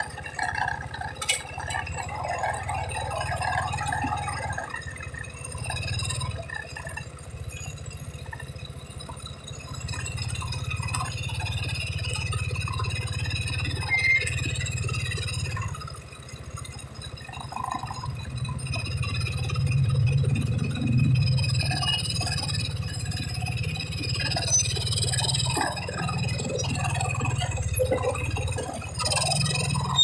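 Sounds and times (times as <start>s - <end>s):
car engine idling and pulling away: 0.0s - 30.0s.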